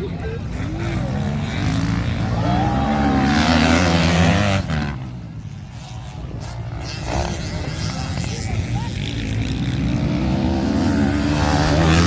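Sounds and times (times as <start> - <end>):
racing motorcycles revving past: 0.4 - 12.0.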